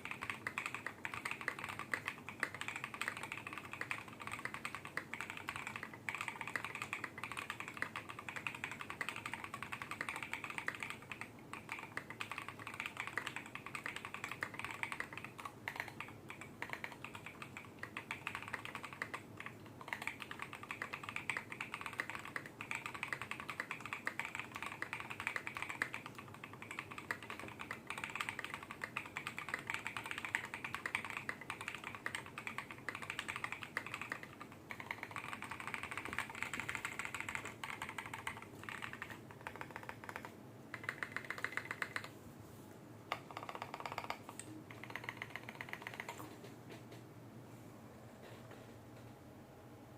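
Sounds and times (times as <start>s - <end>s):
mechanical keyboard typing: 0.0s - 42.2s, 43.1s - 46.5s.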